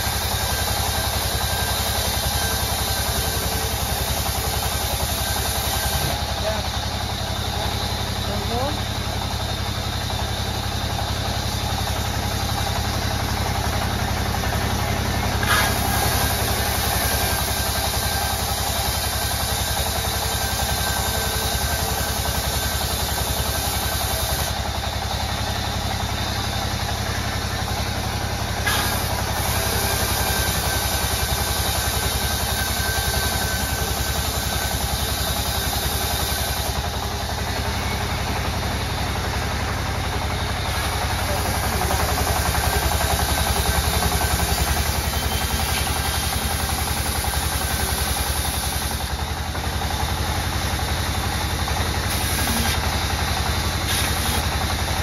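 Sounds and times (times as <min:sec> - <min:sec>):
saw blade hissing through wood: 0:00.0 - 0:25.8, 0:28.2 - 0:38.2, 0:40.2 - 0:49.2, 0:52.0 - 0:53.1, 0:53.7 - 0:54.5
sawmill motor hum: 0:00.0 - 0:55.0.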